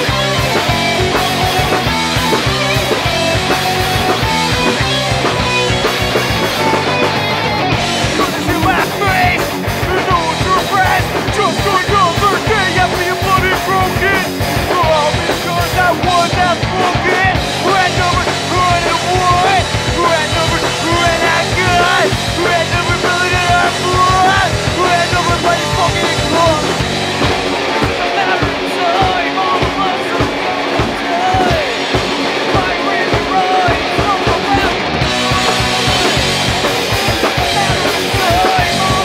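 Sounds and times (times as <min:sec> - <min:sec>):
bass guitar: 0:00.0 - 0:39.0
drum kit: 0:00.0 - 0:39.0
electric guitars: 0:00.0 - 0:39.0
wavering lead guitar line: 0:00.0 - 0:39.0.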